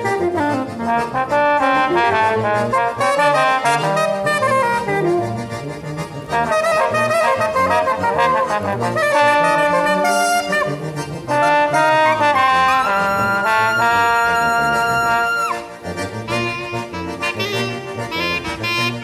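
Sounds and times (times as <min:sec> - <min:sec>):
wind band playing a hymn: 0:00.0 - 0:19.0.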